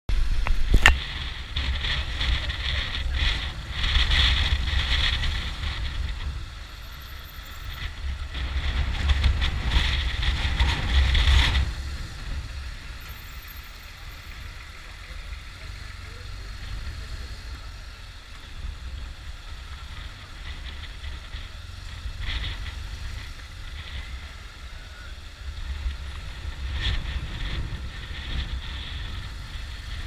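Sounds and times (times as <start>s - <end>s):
motorcycle engine: 0.1s - 30.0s
wind rumble on microphone: 0.1s - 30.0s.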